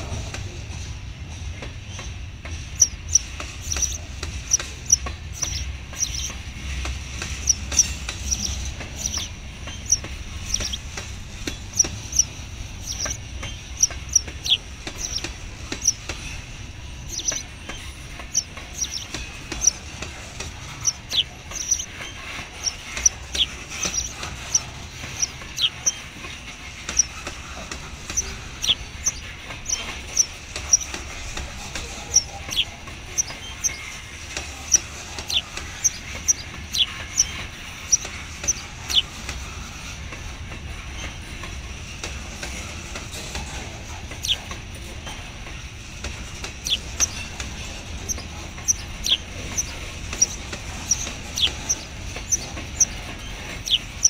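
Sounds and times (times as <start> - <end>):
freight train rumbling: 0.0 - 54.0
high squeaks and clicks: 1.4 - 54.0.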